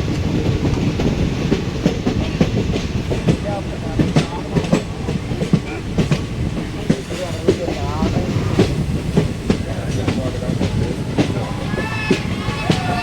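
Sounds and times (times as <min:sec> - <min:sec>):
train wheels rumbling on rails: 0:00.0 - 0:13.0
wheels clattering over rail joints: 0:00.0 - 0:13.0.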